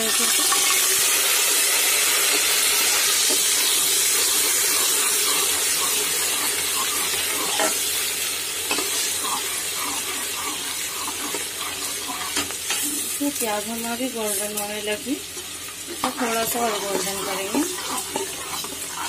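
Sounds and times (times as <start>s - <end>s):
onion paste sizzling in hot oil: 0.0s - 19.0s.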